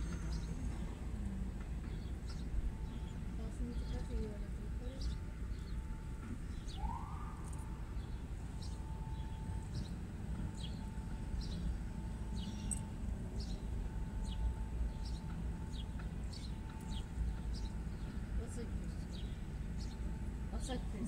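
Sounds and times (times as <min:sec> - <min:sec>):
city street traffic rumble: 0:00.0 - 0:21.0
faint steady tone: 0:00.0 - 0:21.0.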